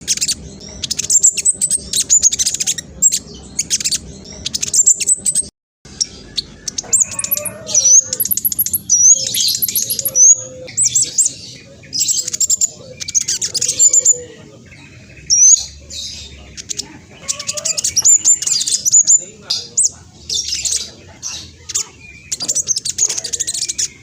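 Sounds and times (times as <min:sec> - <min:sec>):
sunbird twittering song: 0:00.0 - 0:24.0.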